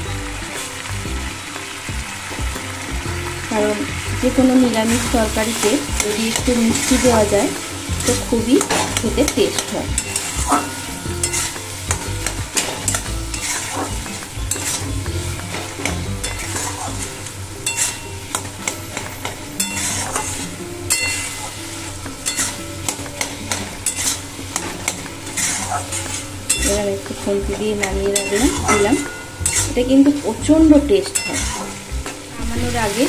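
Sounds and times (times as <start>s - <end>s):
food sizzling: 0.0s - 33.0s
metal spatula scraping a wok: 4.5s - 33.0s.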